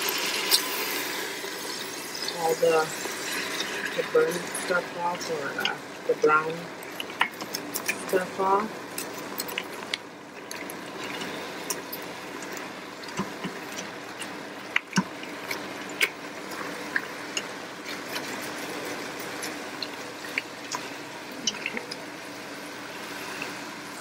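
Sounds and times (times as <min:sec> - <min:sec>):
broth simmering and sizzling: 0:00.0 - 0:24.0.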